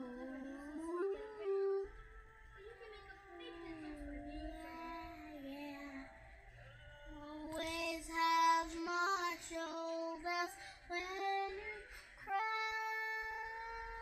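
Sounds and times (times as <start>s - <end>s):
young child singing: 0.0s - 2.0s, 2.6s - 6.1s, 7.1s - 14.0s.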